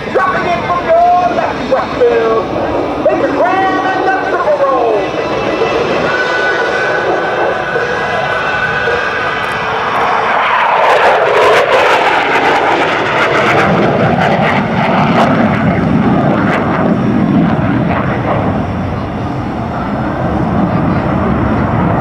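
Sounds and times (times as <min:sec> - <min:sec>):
jet engine roaring past: 0:00.0 - 0:22.0.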